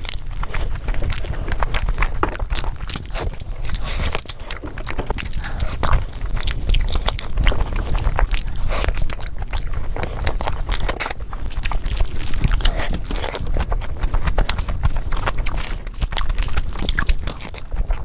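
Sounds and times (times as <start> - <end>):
person chewing with wet mouth sounds: 0.0 - 18.0.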